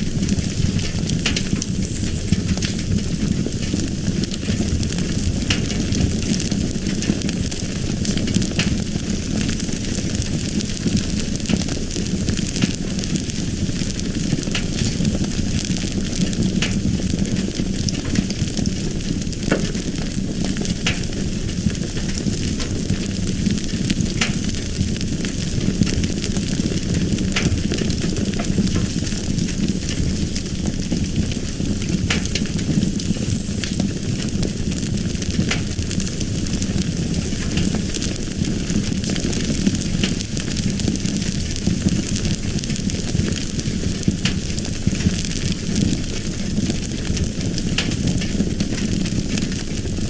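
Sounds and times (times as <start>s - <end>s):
fire popping and crackling: 0.0s - 50.0s
fire rumbling and hissing: 0.0s - 50.0s.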